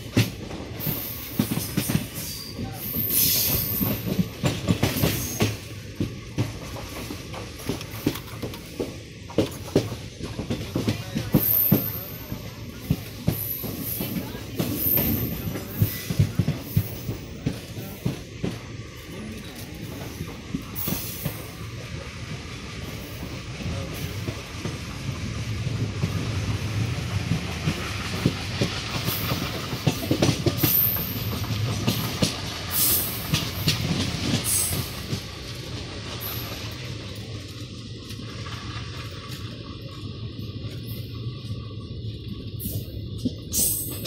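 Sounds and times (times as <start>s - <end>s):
steady train rumble: 0.0s - 44.0s
train wheels clattering on rails: 0.0s - 44.0s.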